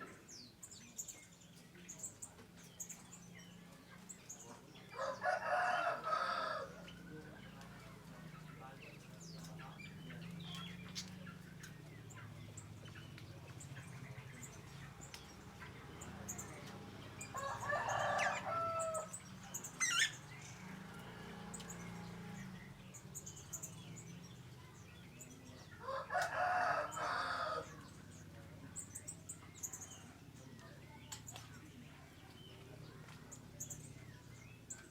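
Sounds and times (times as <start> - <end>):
loud bird calls: 0.0 - 34.9.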